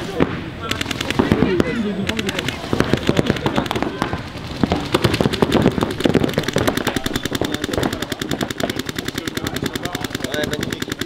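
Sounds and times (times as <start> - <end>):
paintball markers firing: 0.7 - 11.0.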